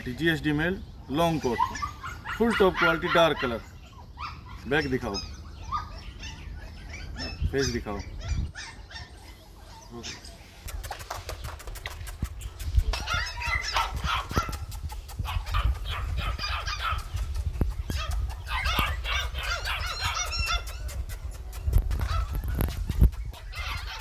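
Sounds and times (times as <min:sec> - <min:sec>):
puppies yelping and whining: 0:00.0 - 0:10.8, 0:12.8 - 0:24.0.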